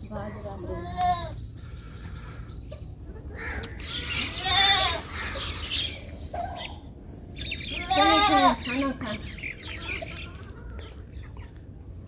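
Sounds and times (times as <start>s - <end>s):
chickens squawking: 0.8s - 11.6s.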